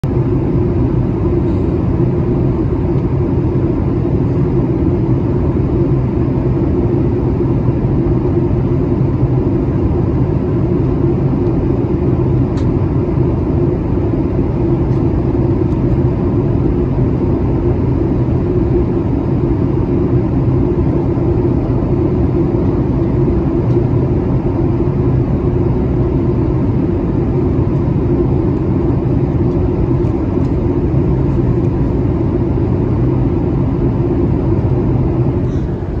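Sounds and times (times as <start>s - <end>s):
jet engine drone in cabin: 0.0s - 36.0s.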